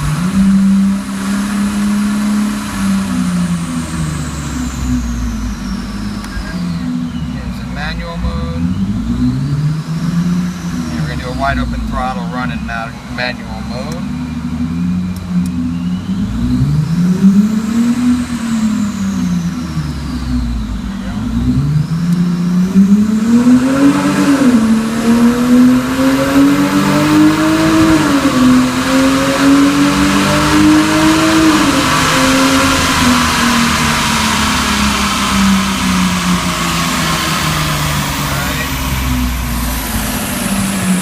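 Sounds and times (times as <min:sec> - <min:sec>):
car engine at full throttle: 0:00.0 - 0:41.0.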